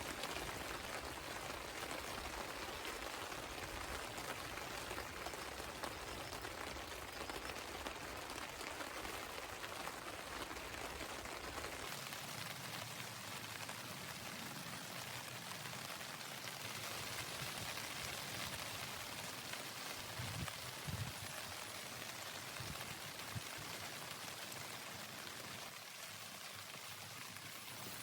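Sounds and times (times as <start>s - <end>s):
rain pattering: 0.0s - 28.0s.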